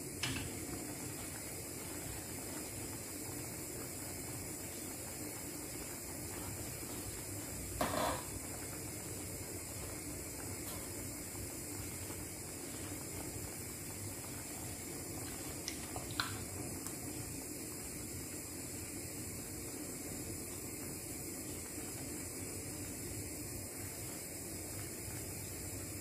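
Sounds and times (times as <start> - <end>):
sauce simmering in a frying pan: 0.0 - 26.0.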